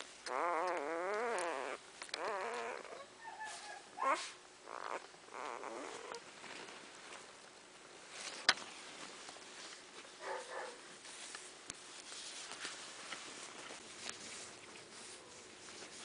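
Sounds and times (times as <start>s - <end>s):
rustling on a blanket: 0.0s - 16.0s.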